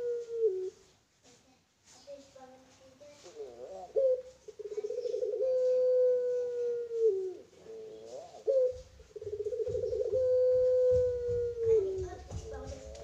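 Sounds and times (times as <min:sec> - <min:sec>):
dove cooing: 0:00.0 - 0:00.9, 0:03.3 - 0:13.0.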